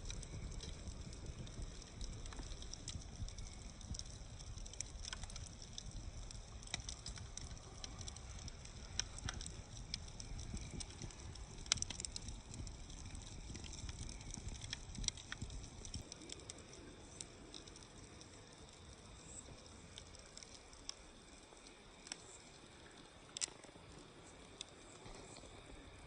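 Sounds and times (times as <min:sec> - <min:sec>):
steady low rumble: 0:00.0 - 0:22.1
campfire crackling and popping: 0:00.0 - 0:26.0.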